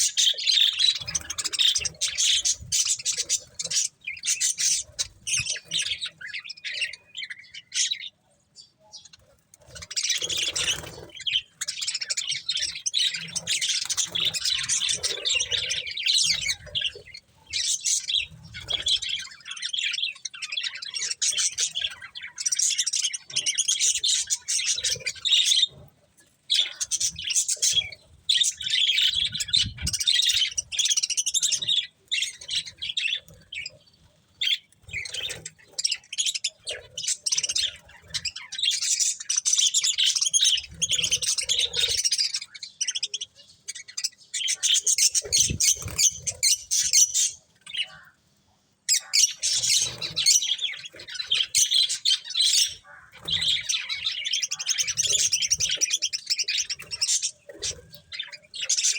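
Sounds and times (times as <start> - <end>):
budgerigars chattering and chirping: 0.0 - 48.2, 48.9 - 58.9.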